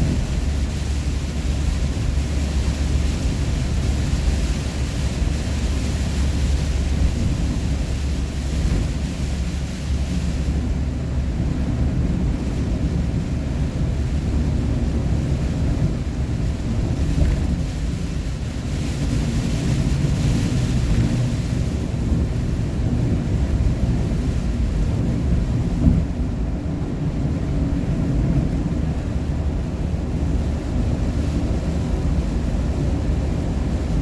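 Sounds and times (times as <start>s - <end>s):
engine and tyre road rumble: 0.0s - 34.0s
wind noise hiss: 0.0s - 34.0s.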